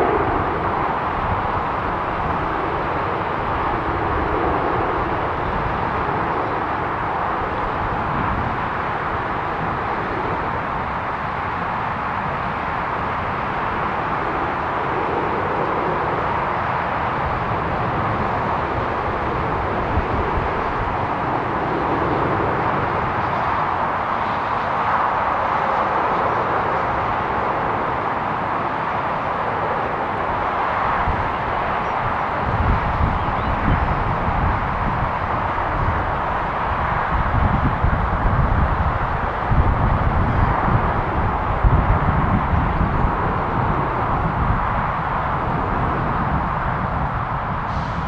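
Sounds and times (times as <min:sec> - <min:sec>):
jet engines roaring: 0:00.0 - 0:48.0.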